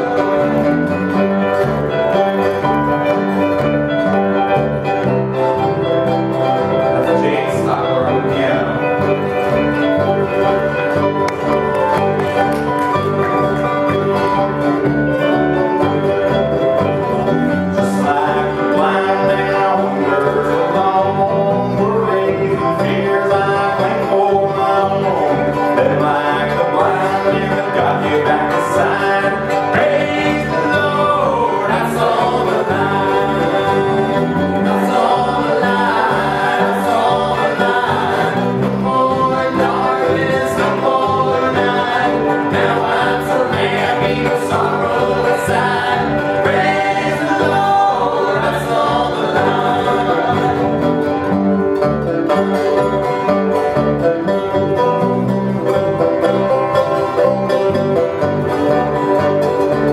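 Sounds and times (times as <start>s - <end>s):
person singing: 0.0s - 15.3s, 17.5s - 51.4s
banjo picking: 0.0s - 59.9s
electric bass guitar: 0.0s - 59.9s.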